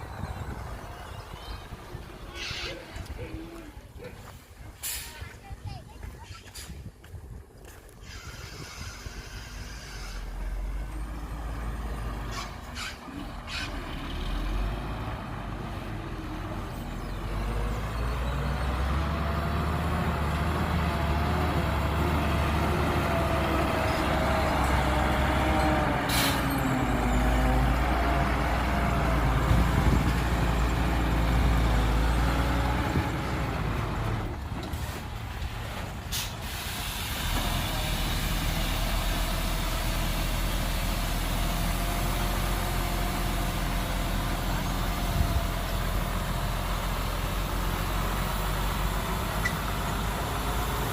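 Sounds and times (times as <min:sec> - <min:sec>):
heavy diesel engine working: 0:08.0 - 0:50.9.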